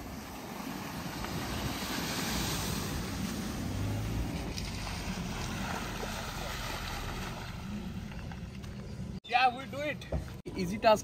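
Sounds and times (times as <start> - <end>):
car engine: 0.0 - 9.2.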